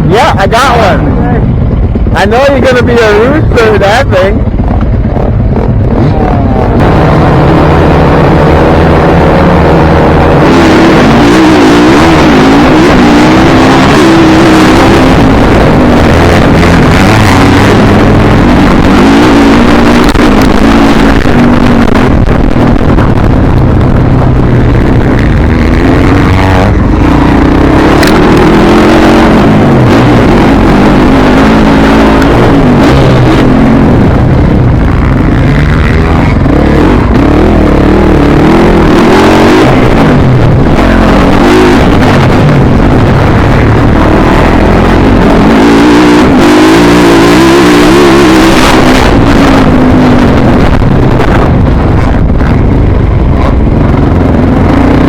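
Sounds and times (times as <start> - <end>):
dense rushing noise: 0.0 - 55.0
dirt bike engine revving: 0.0 - 55.0.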